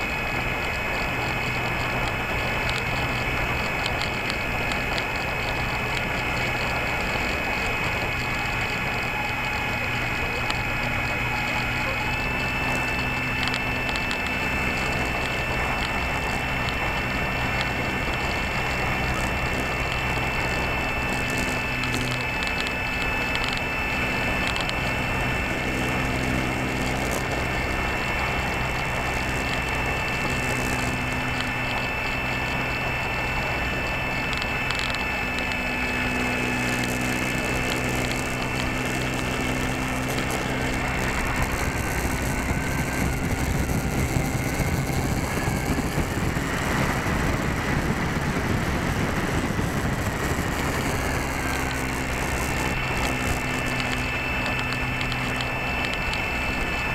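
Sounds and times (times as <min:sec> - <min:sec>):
electric motor and propeller whine: 0:00.0 - 0:56.9.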